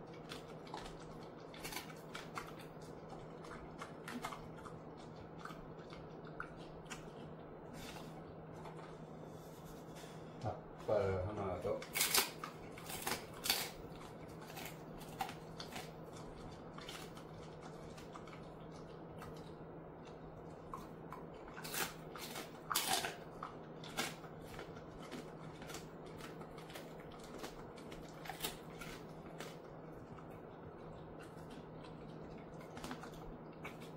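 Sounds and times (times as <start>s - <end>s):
dog crunching bone: 0.0s - 9.4s, 10.8s - 33.9s
faint steady hum: 0.0s - 33.9s.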